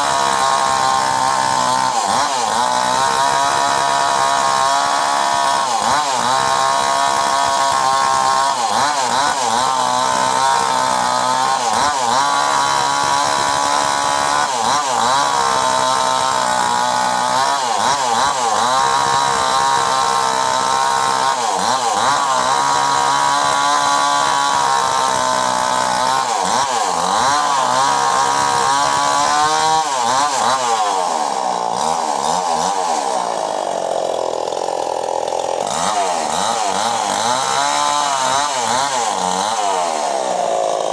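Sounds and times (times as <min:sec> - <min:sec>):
mini chainsaw running: 0:00.0 - 0:40.9.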